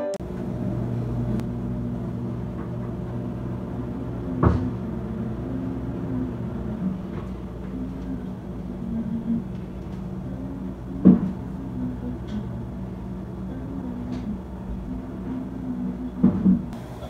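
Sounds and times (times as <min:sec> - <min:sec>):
building work rumble upstairs: 0:00.2 - 0:17.0.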